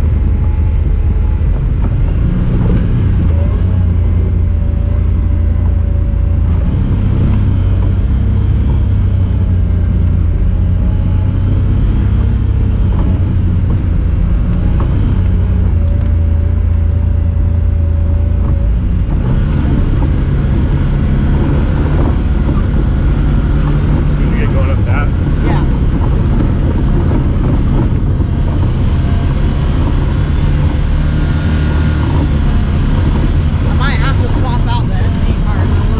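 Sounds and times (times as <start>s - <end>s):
engine droning: 0.0s - 35.9s.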